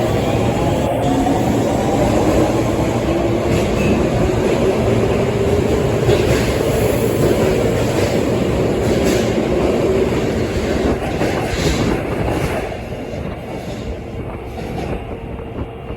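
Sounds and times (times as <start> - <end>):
subway train rumbling on rails: 0.0 - 15.9.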